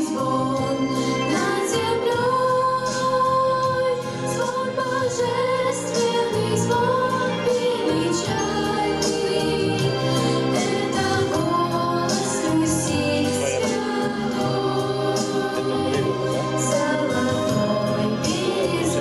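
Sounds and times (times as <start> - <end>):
backing music: 0.0 - 19.0
two women singing a duet: 0.0 - 19.0.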